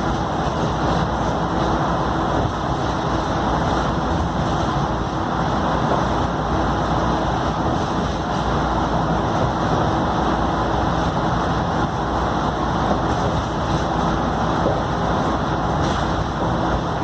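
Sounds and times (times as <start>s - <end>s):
bus engine rumble: 0.0s - 17.0s
road noise: 0.0s - 17.0s.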